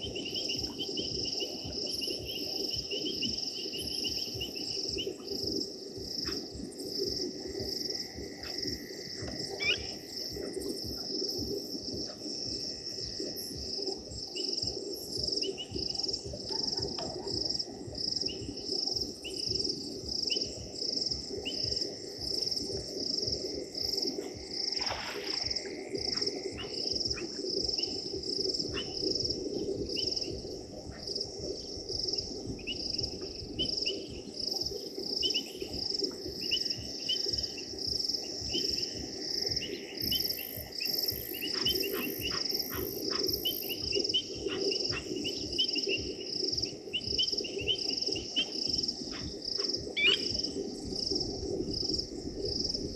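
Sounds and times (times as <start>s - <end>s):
crickets chirping: 0.0s - 52.9s
frogs calling: 0.0s - 52.9s.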